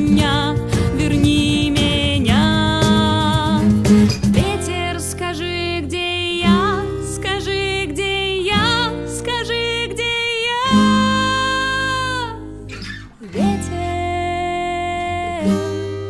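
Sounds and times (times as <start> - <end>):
acoustic guitar: 0.0 - 16.0
bass: 0.0 - 16.0
woman singing wordless melody: 0.0 - 16.0.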